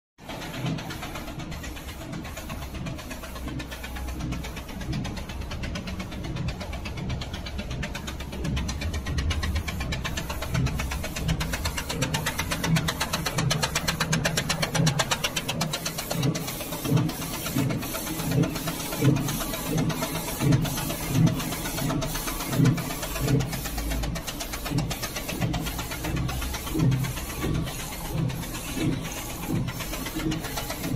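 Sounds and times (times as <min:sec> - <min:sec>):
printer mechanical rattle: 0:00.2 - 0:30.9.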